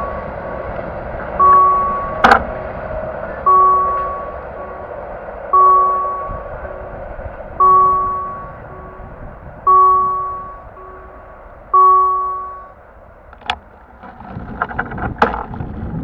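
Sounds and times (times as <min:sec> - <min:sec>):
railroad crossing bell ringing: 0:00.0 - 0:13.3.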